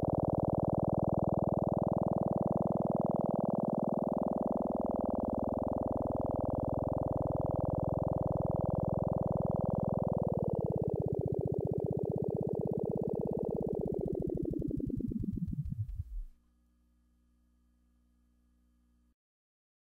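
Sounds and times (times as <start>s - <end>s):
faint hum: 0.0s - 19.2s.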